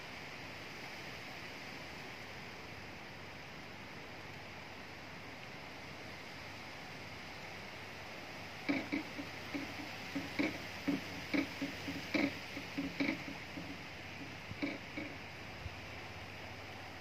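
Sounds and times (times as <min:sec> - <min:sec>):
wind rustling trees: 0:00.0 - 0:17.0.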